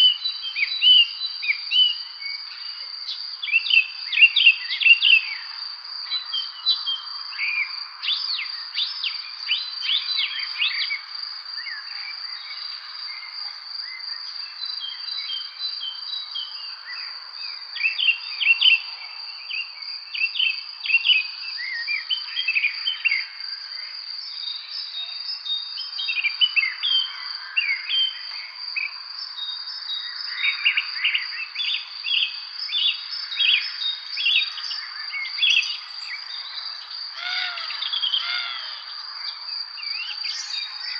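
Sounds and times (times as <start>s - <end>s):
high-pitched insect trill: 0.0s - 40.9s
songbirds chirping and singing: 0.0s - 40.9s.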